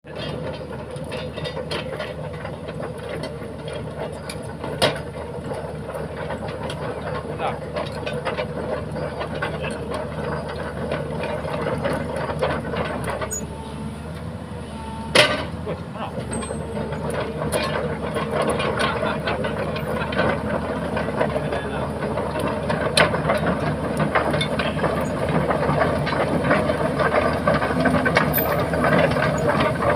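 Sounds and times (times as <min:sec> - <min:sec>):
diesel engine running: 0:00.0 - 0:29.9
metallic clanks and knocks: 0:00.1 - 0:13.4, 0:15.1 - 0:15.6, 0:16.2 - 0:29.9.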